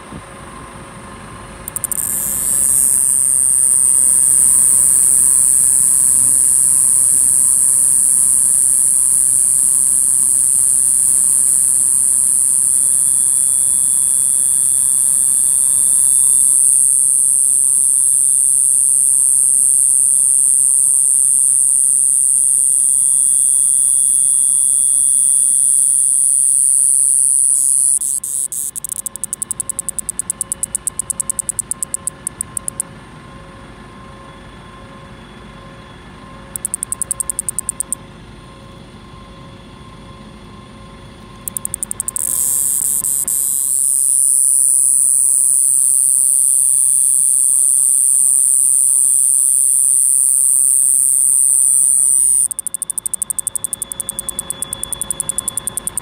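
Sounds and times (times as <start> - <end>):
cicada buzzing: 1.6 - 32.8, 36.6 - 38.0, 41.4 - 56.0.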